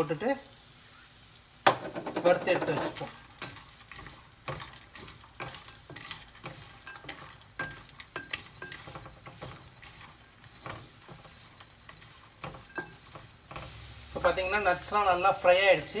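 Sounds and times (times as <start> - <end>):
faint sizzle: 0.0 - 16.0
nuts scraping and clicking on pan: 1.6 - 16.0.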